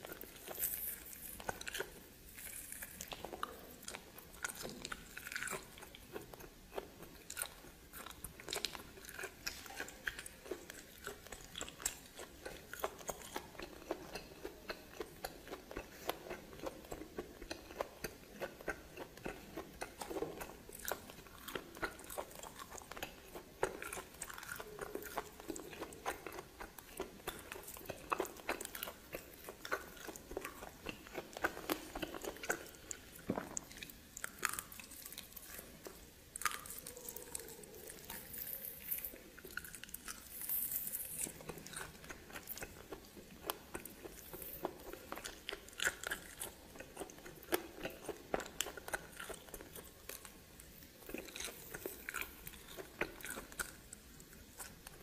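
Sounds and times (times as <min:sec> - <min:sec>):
person chewing with crunches: 0:00.0 - 0:55.0.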